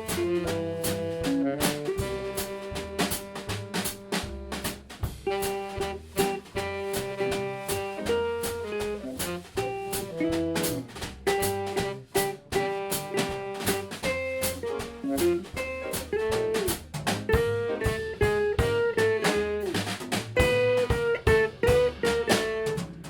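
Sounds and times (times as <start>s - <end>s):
drum kit keeping time: 0.0s - 23.0s.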